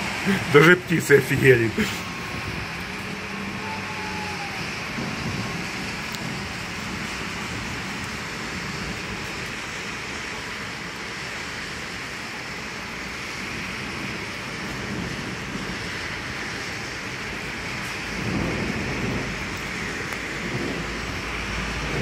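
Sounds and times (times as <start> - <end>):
steady rain falling: 0.0 - 22.0
low rumble of thunder: 0.1 - 10.0, 13.6 - 22.0.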